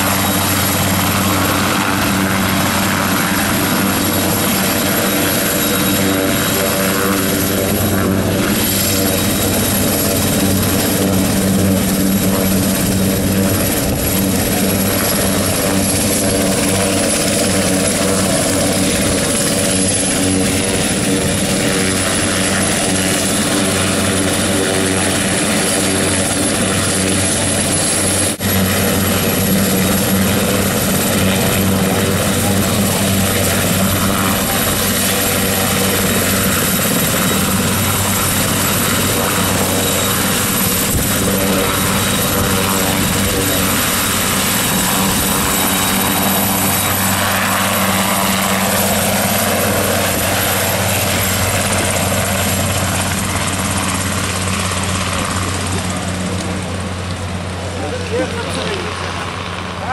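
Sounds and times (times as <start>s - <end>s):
helicopter rotor and engine: 0.0s - 59.9s
high turbine whine: 0.0s - 59.9s.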